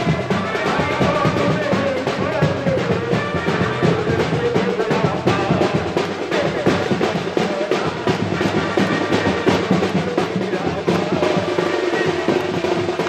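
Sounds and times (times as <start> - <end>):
rapid drumming with rolls: 0.0 - 13.0.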